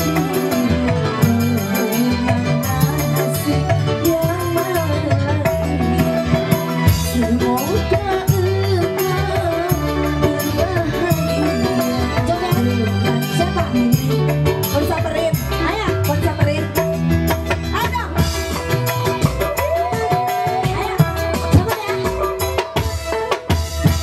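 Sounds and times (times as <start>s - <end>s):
women singing: 0.0s - 16.7s, 19.5s - 22.6s
drum beat and bass: 0.0s - 24.0s
electronic keyboard: 0.0s - 24.0s.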